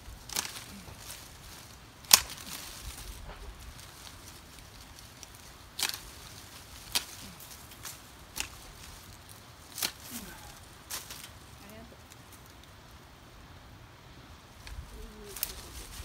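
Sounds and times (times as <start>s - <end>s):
branches snapping as cut: 0.1s - 12.7s, 14.6s - 16.0s.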